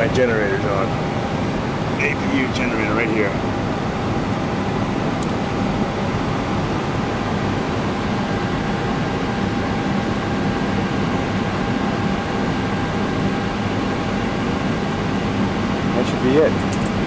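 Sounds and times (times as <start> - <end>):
auxiliary power unit running: 0.0 - 17.0
faint steady whine: 0.0 - 17.0
ventilation fans rushing: 0.0 - 17.0.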